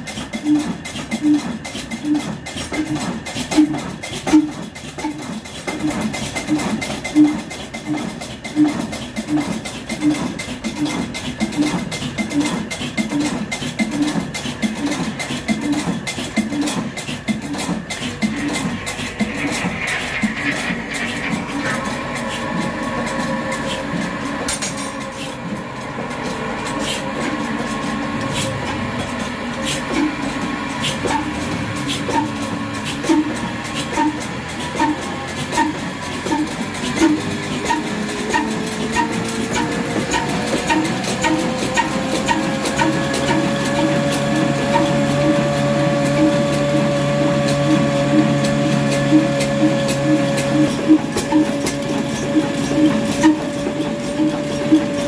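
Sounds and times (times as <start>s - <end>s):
engine knocking: 0.0s - 55.0s
grinding mill whine: 0.0s - 55.0s
stationary diesel engine running: 0.0s - 55.0s.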